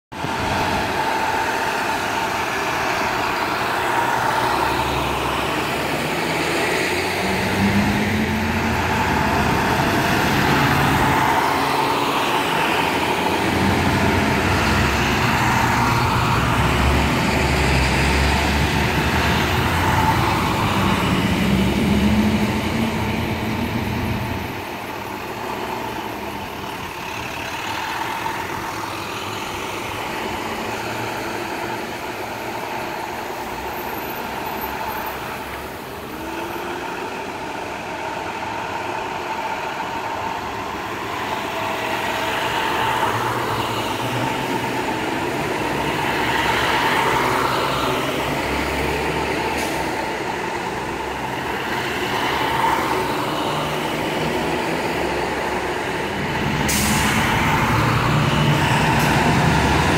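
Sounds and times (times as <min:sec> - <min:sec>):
bus engines accelerating: 0:00.1 - 0:59.9.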